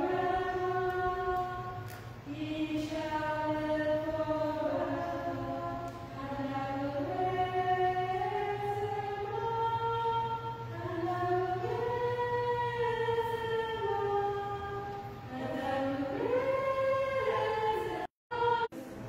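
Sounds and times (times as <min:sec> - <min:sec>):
hymn sung slowly: 0:00.0 - 0:19.0
steady low hum: 0:00.0 - 0:19.0.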